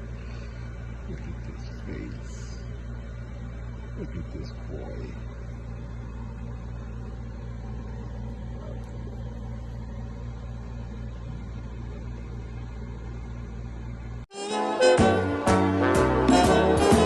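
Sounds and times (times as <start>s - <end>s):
appliance or fan humming: 0.0s - 17.0s.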